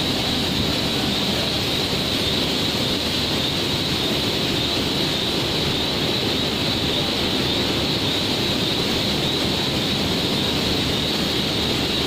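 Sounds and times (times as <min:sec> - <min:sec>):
constant high hiss: 0:00.0 - 0:12.0
machinery drone: 0:00.0 - 0:12.0.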